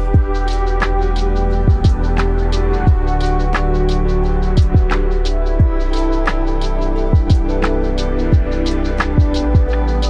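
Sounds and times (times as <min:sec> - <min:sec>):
deep kick drums: 0:00.0 - 0:10.0
held chords: 0:00.0 - 0:10.0
hi-hat ticks: 0:00.0 - 0:10.0.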